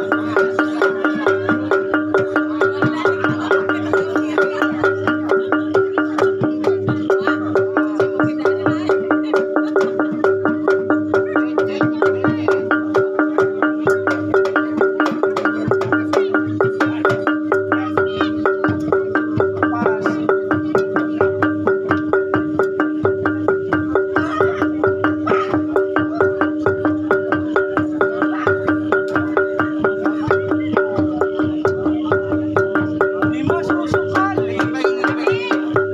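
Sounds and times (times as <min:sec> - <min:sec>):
gamelan music: 0:00.0 - 0:35.9.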